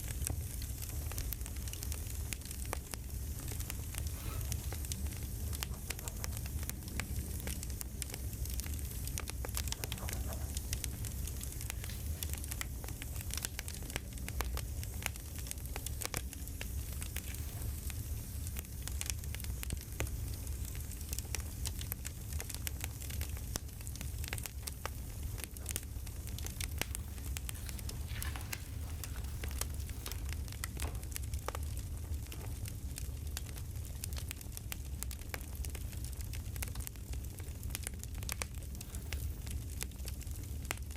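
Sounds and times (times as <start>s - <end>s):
campfire flames rumbling: 0.0s - 40.9s
fire pops and snaps: 0.0s - 40.9s.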